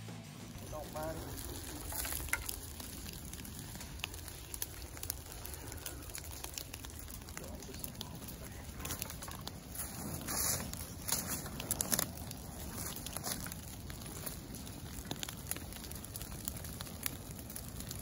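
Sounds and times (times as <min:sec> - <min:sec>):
low rush of fire: 0:00.0 - 0:18.0
grass fire crackling and popping: 0:00.2 - 0:18.0.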